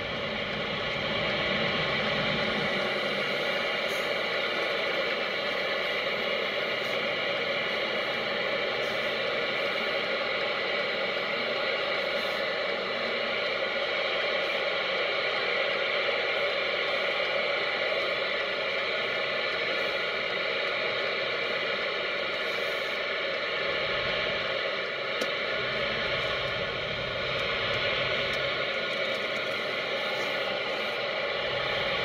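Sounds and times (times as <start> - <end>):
in-cabin road noise hiss: 0.0 - 32.0.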